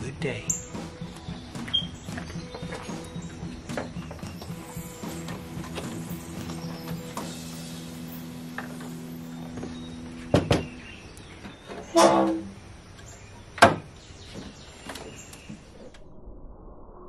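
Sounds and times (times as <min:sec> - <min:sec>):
faint background music: 0:00.0 - 0:15.6.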